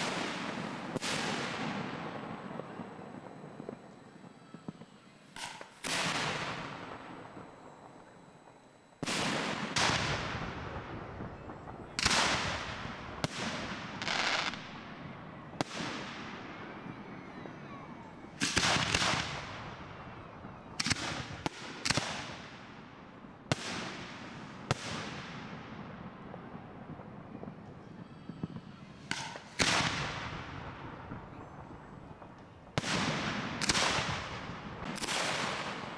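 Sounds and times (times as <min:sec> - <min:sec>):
fireworks booming with echo: 0:00.0 - 0:35.9.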